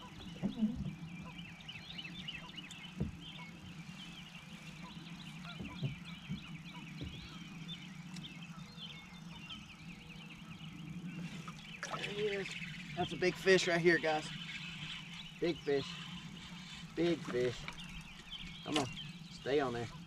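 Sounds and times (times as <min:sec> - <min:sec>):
birds chattering and singing: 0:00.0 - 0:20.0.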